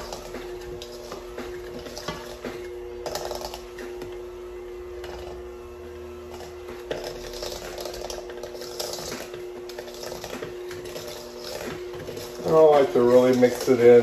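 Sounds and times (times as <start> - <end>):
ground meat being stirred: 0.0 - 4.3, 4.9 - 14.0
steady hum: 0.0 - 14.0.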